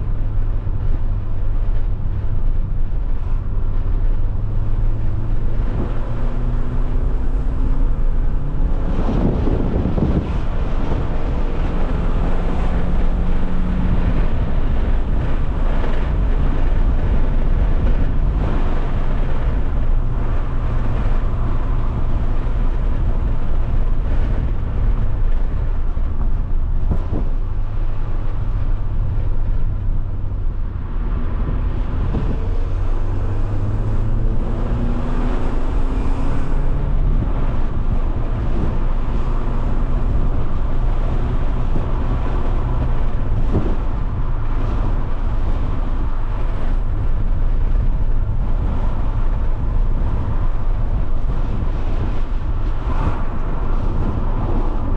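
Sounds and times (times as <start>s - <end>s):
car engine running: 0.0s - 54.9s
road and wind noise: 0.0s - 54.9s.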